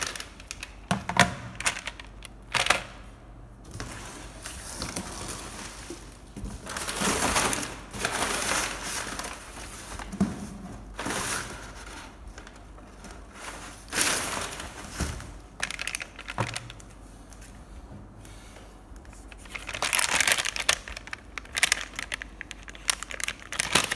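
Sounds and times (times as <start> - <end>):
plastic packaging rustling: 0.0 - 3.0, 3.7 - 17.6, 19.1 - 23.9.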